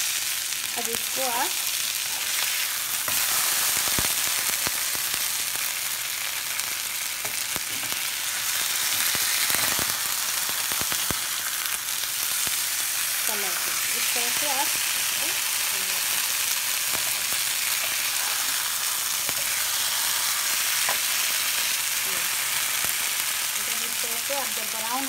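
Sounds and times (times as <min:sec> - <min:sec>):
fish sizzling in oil: 0:00.0 - 0:25.0.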